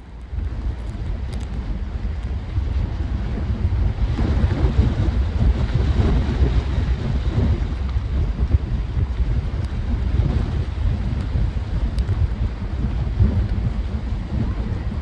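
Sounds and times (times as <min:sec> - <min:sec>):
wind buffeting microphone: 0:00.0 - 0:15.0
surf: 0:00.3 - 0:15.0.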